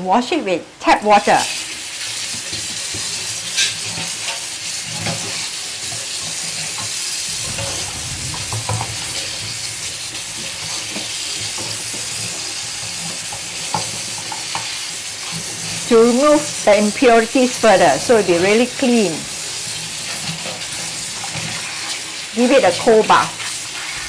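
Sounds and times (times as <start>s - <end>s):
tap water running into steel bowl: 1.4s - 7.4s, 8.8s - 24.0s.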